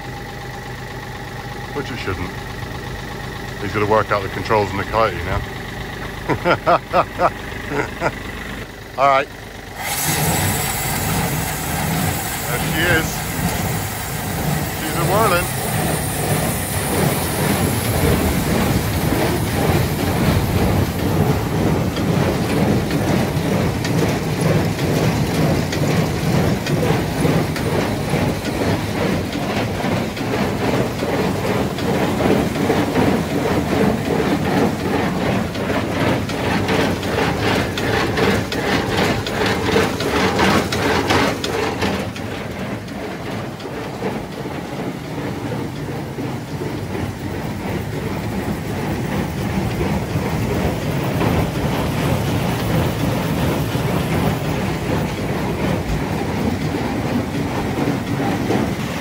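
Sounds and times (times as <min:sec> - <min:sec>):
baler rhythmic mechanical clatter: 0:00.0 - 0:59.0
tractor engine running: 0:00.0 - 0:59.0.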